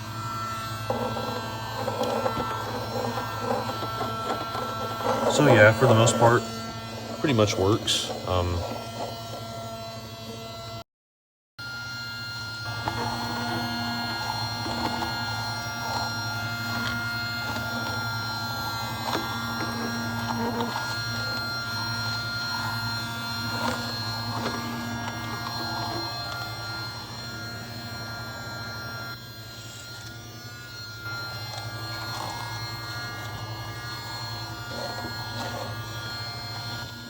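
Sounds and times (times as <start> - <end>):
handheld vacuum motor humming: 0.0 - 10.8, 11.6 - 37.0.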